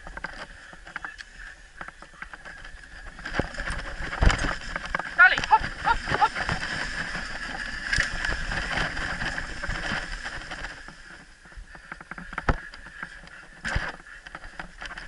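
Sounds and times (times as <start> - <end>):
scattered clicks and knocks: 0.0 - 15.0
tyres rustling over dry leaves: 0.0 - 15.0.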